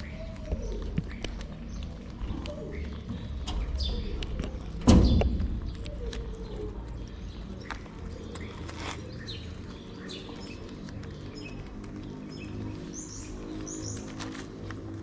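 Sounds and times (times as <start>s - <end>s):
bird chirps: 0.0s - 14.4s
cats chewing and licking: 0.0s - 15.0s.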